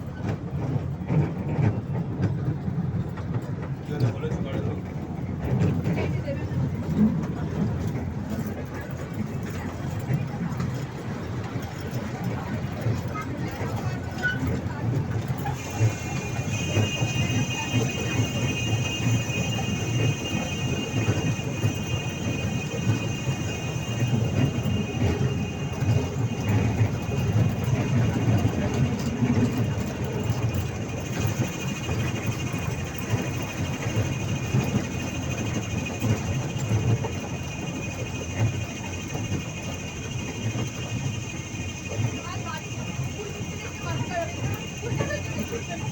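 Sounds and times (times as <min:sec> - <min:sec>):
toy train wheels rattling: 0:05.5 - 0:45.9.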